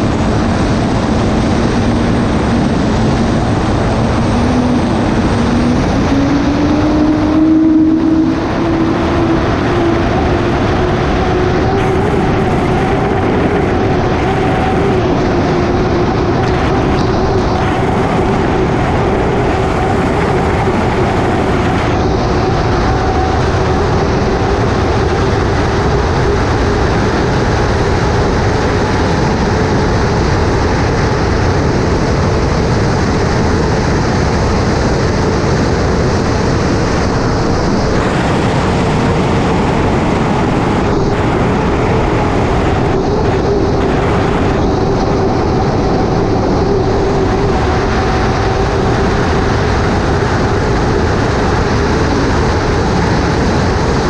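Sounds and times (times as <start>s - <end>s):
rushing wind and water: 0.0s - 54.0s
turbine engine running flat out: 0.0s - 54.0s.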